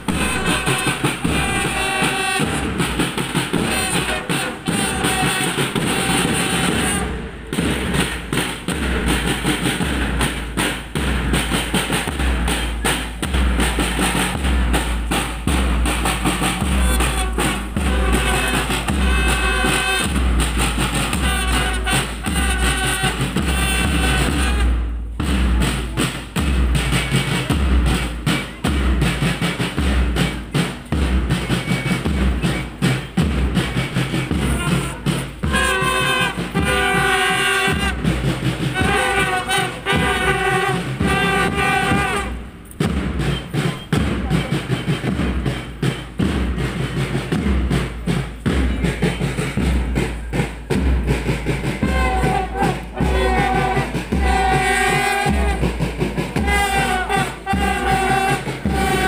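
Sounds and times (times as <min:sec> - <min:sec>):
bass drum beating: 0:00.0 - 0:59.0
side drums rattling: 0:00.0 - 0:59.0
wind instruments melody: 0:00.0 - 0:59.0.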